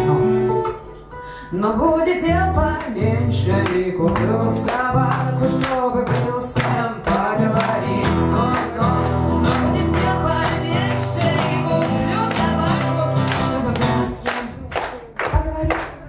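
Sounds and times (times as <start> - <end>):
strummed acoustic guitar: 0.0 - 14.6
woman singing into microphone: 1.5 - 16.0.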